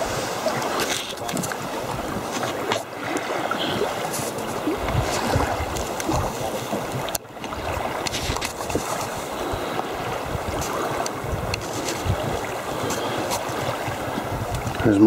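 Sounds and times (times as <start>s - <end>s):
waves lapping around canoe: 0.0s - 15.0s
wind buffeting microphone: 0.0s - 15.0s.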